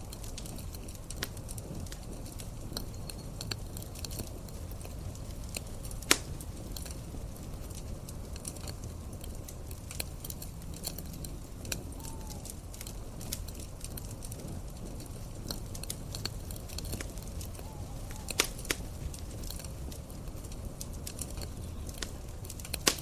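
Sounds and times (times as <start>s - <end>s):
campfire crackling: 0.0s - 23.0s
steady low rumble: 0.0s - 23.0s.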